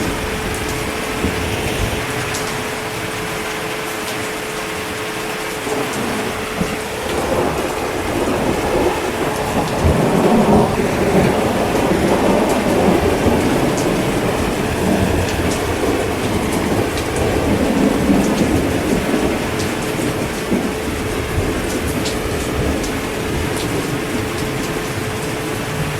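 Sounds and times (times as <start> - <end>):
heavy rain: 0.0 - 25.9
rolling thunder: 0.0 - 25.9.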